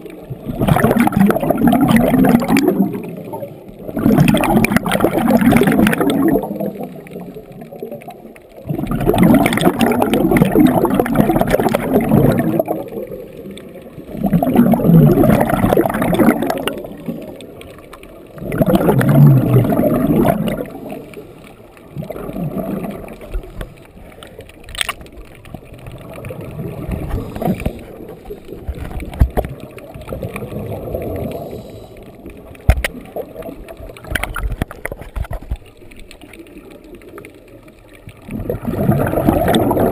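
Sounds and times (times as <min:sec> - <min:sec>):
diver exhaled bubbles gurgling: 0:00.0 - 0:39.9.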